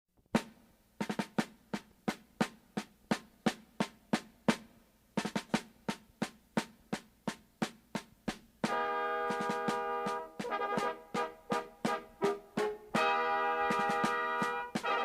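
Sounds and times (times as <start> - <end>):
snare drum marching beat: 0.4 - 15.0.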